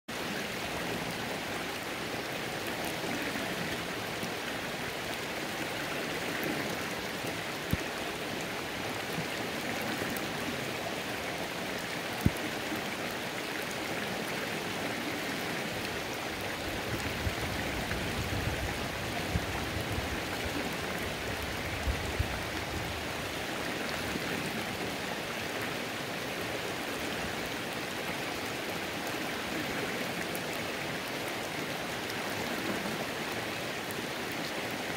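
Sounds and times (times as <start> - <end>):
rain on running water: 0.1 - 34.9.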